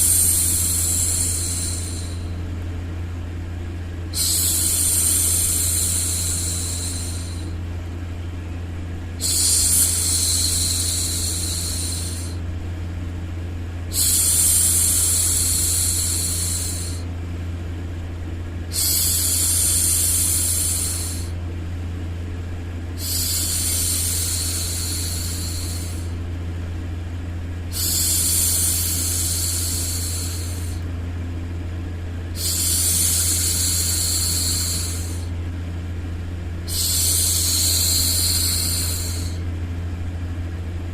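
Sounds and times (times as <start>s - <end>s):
steady low hum: 0.0s - 40.9s
white noise: 0.0s - 40.9s.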